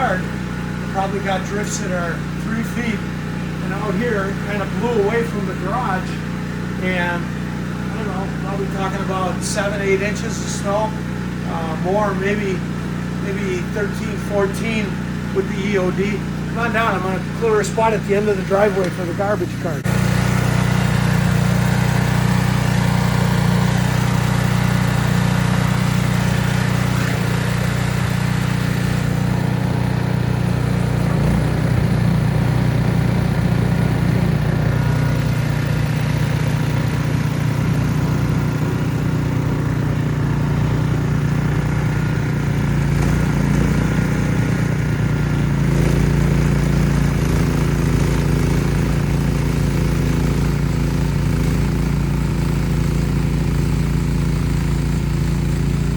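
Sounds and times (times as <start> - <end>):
snowblower running under load: 0.0 - 55.9.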